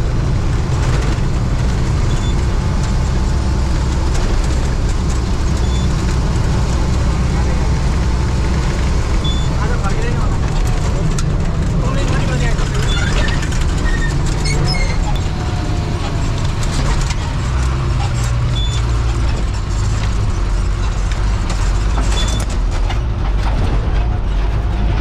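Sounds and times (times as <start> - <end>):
bus body clattering: 0.0 - 25.0
bus engine droning: 0.0 - 25.0.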